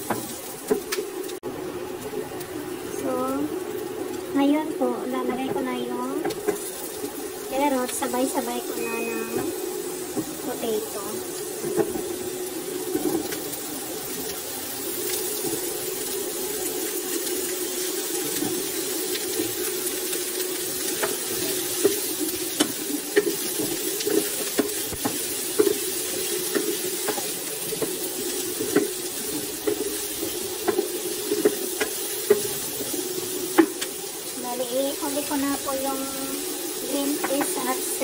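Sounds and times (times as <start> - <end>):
vegetables sizzling in a pan: 0.0 - 38.0.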